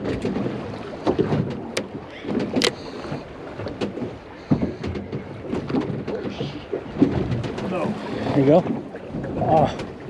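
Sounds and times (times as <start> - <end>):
sharp knocks on hull: 0.0 - 2.8, 3.6 - 10.0
water lapping against boat hull: 0.0 - 10.0.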